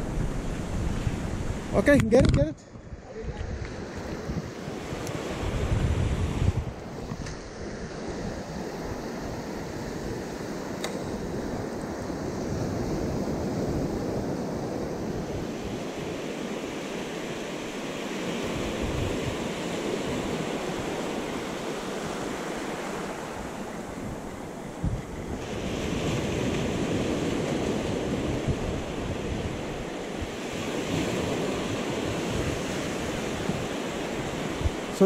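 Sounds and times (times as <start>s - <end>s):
small waves breaking on beach: 2.8s - 35.0s.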